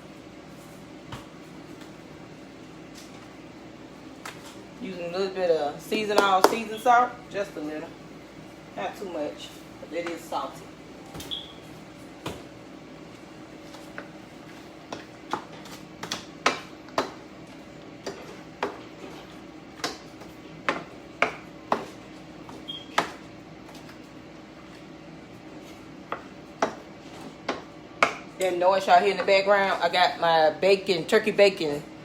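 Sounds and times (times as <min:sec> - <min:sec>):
air fryer hum: 0:00.0 - 0:32.0.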